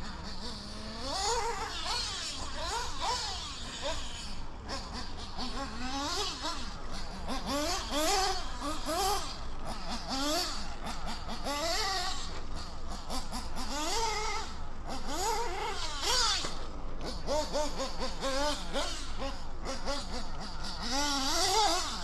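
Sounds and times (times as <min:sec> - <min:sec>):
small engine revving: 0:00.0 - 0:22.0.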